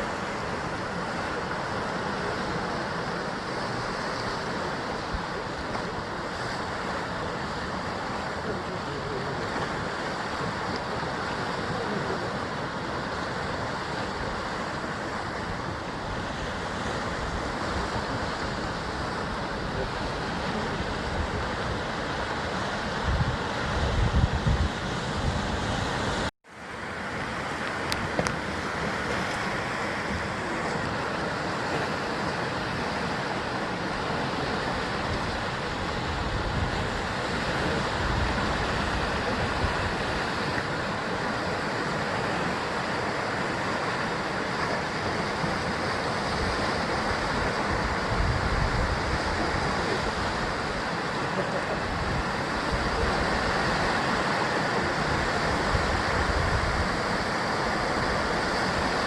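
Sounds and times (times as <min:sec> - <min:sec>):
wind rumble on microphone: 0:00.0 - 0:26.3, 0:27.6 - 0:59.0
sea surf washing against cliffs: 0:00.0 - 0:59.0.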